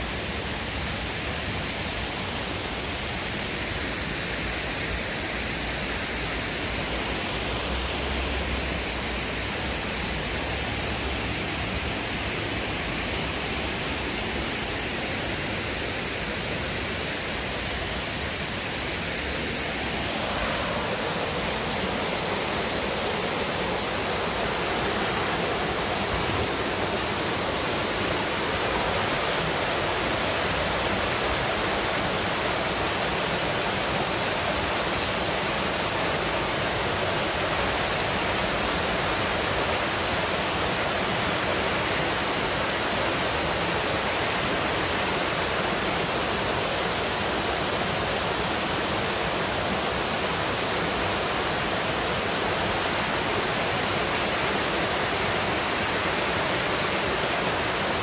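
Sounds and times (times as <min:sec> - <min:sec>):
water rushing down stone cascade: 0:00.0 - 0:58.0.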